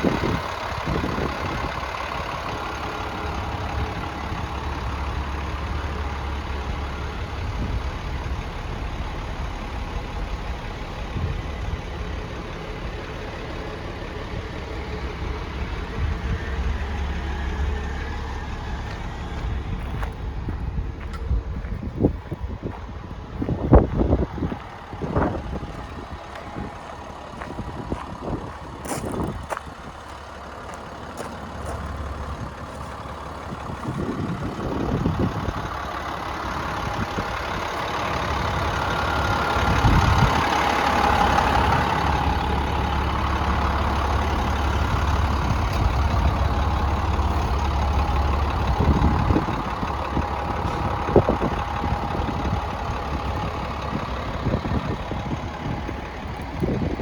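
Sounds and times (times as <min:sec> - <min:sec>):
diesel truck engine idling: 0:00.0 - 0:57.0
engine knocks: 0:00.0 - 0:57.0.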